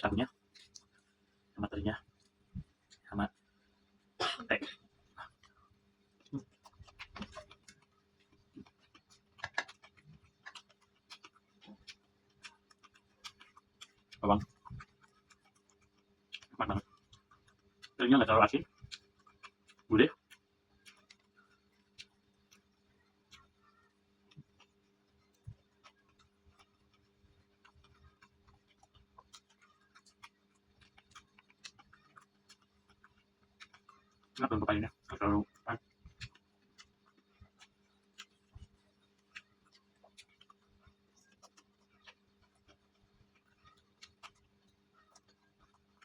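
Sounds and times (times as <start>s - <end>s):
wet chewing with crunches: 0.0s - 3.5s, 5.0s - 46.0s
faint steady hum: 0.0s - 46.0s.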